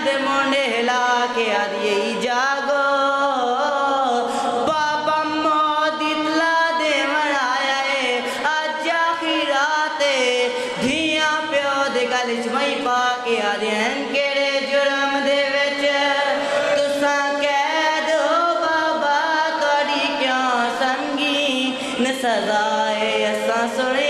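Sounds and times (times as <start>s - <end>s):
boy chanting a lament: 0.0s - 24.0s.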